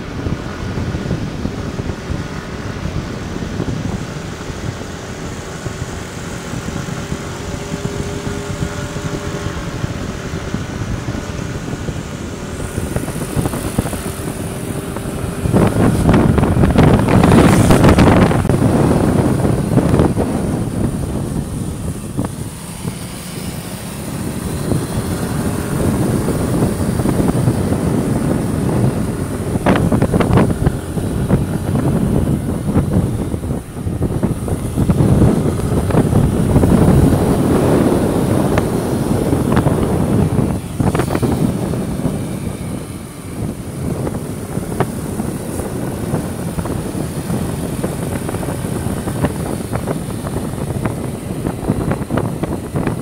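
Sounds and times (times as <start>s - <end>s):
motorbike engine running: 0.0s - 53.0s
wind buffeting microphone: 0.0s - 53.0s.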